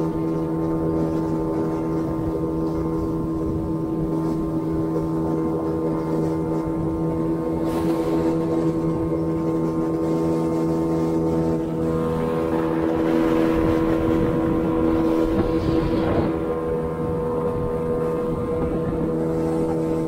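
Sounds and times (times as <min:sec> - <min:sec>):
outboard motor running: 0:00.0 - 0:20.0
water rushing along hull: 0:00.0 - 0:20.0.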